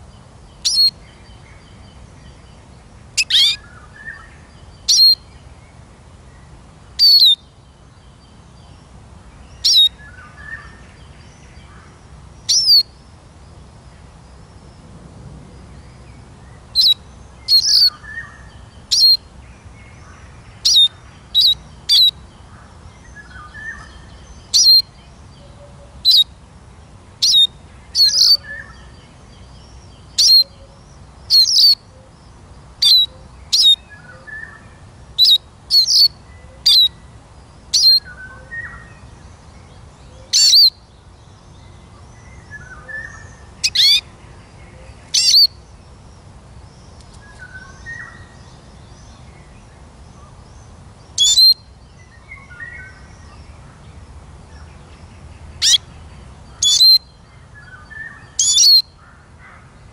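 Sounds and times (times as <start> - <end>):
bird chirping: 0.0 - 5.5, 7.0 - 8.8, 9.4 - 13.0, 15.8 - 26.4, 27.2 - 37.0, 37.7 - 45.8, 46.7 - 59.0.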